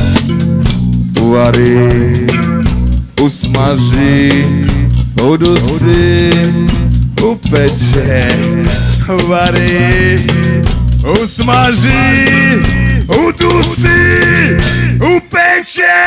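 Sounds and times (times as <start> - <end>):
rock band playing live: 0.0 - 15.5
drum kit beat: 0.0 - 15.6.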